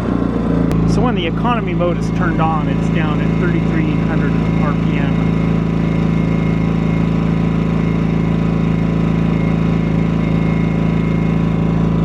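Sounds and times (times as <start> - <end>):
generator engine droning: 0.0 - 12.0.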